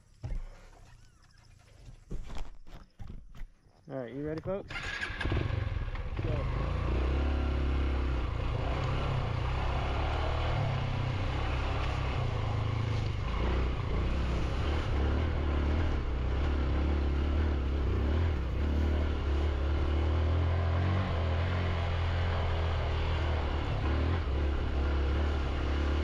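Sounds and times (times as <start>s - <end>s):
motorcycle engine revving: 4.7s - 26.0s.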